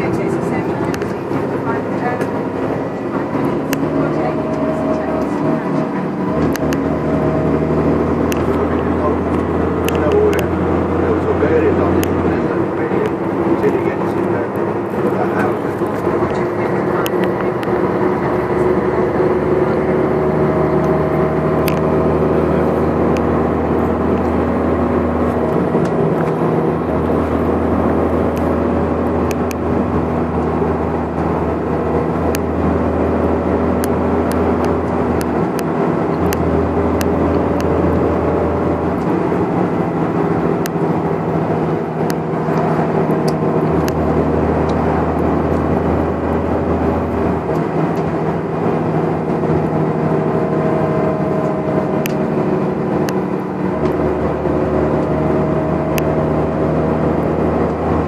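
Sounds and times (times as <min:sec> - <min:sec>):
bus diesel engine: 0:00.0 - 0:58.0
low drone: 0:00.0 - 0:58.0
road noise: 0:00.0 - 0:58.0.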